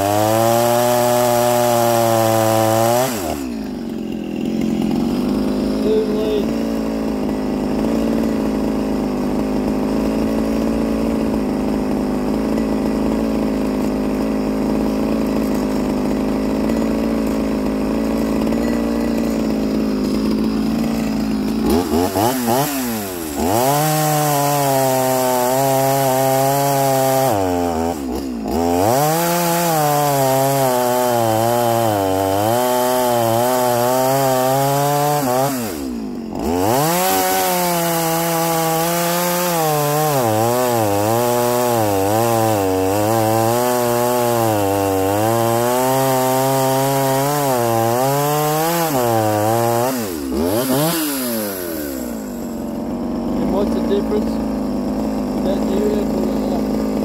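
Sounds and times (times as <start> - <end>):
chainsaw revving and cutting: 0.0 - 57.0.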